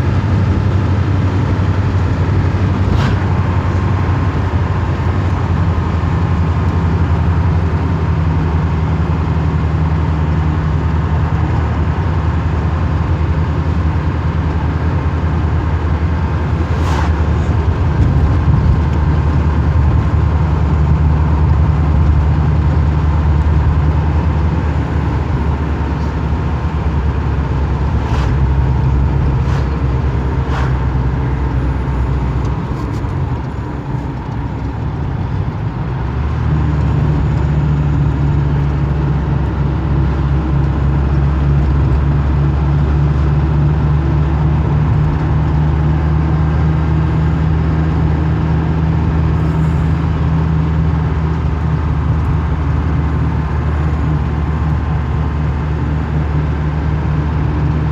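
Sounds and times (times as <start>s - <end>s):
vehicle engine droning: 0.0s - 57.9s.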